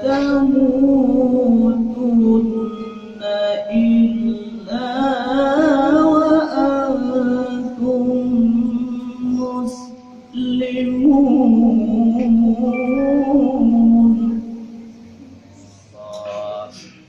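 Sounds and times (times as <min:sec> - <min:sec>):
man reciting melodically: 0:00.0 - 0:15.0, 0:15.8 - 0:17.0.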